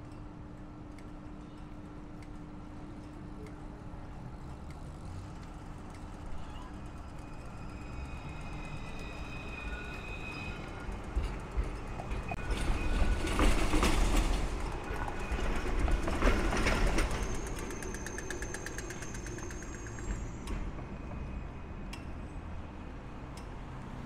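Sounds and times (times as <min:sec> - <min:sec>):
street noise: 0:00.0 - 0:24.0
tram running on street rails: 0:00.0 - 0:24.0.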